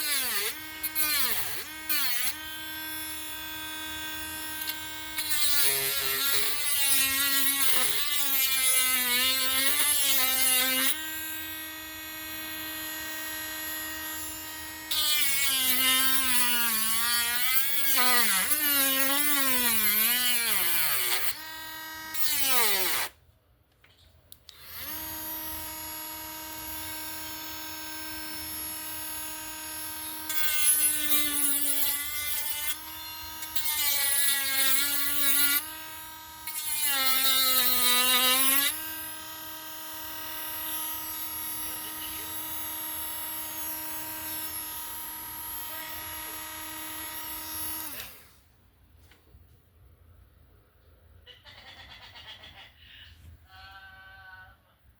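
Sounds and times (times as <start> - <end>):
rotary tool grinding wood: 0.0 - 23.2, 24.5 - 48.4.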